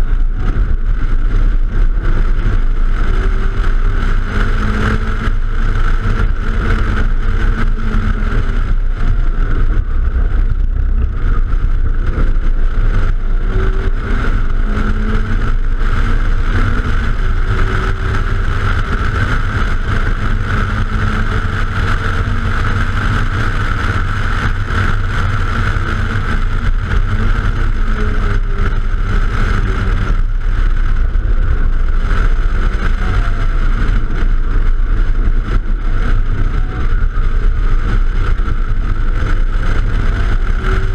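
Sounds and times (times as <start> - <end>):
car engine: 0.0 - 40.9
road rumble: 0.0 - 40.9
wind rush: 0.0 - 40.9.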